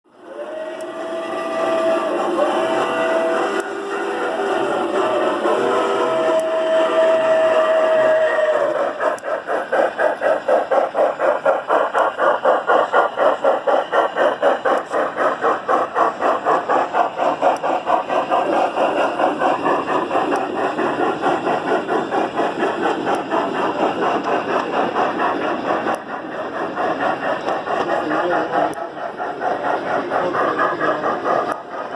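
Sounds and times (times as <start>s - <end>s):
steam engine chuffing: 0.1s - 31.9s.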